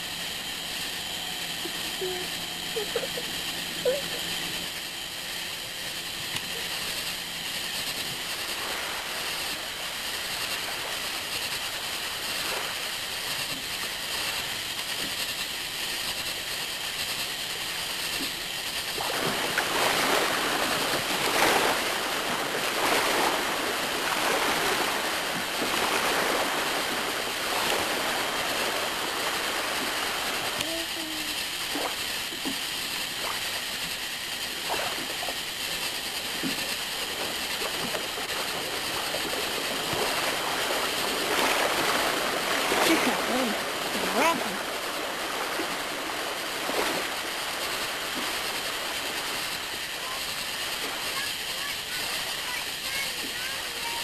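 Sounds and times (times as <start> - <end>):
tape hiss: 0.0 - 54.0.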